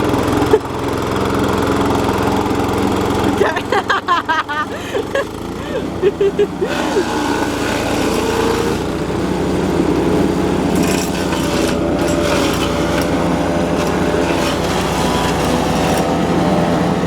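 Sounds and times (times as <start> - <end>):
garden shredder engine running: 0.0 - 17.0.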